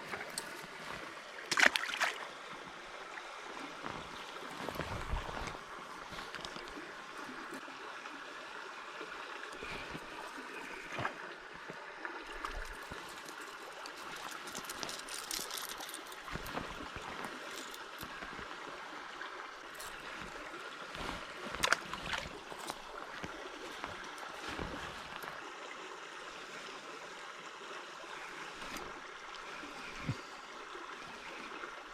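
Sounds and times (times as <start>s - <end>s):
river water flowing: 0.0s - 31.9s.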